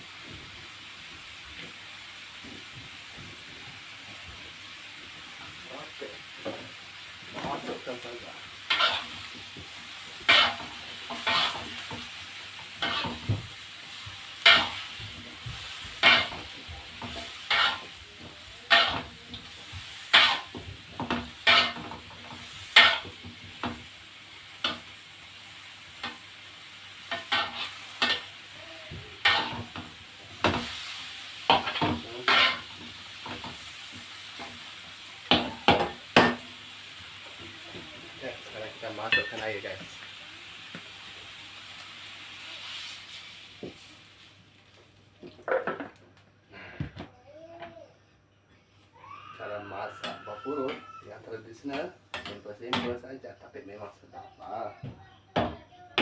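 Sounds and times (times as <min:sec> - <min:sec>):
oil sizzling: 0:00.0 - 0:46.1, 0:49.0 - 0:55.4.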